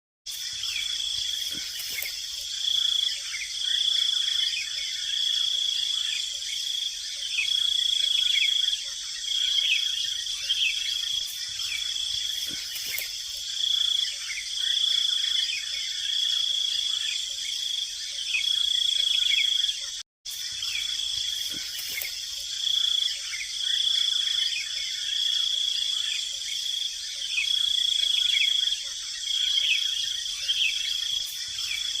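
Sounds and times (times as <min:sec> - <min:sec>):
insect chirps: 0:00.3 - 0:32.0
insects buzzing: 0:00.3 - 0:32.0.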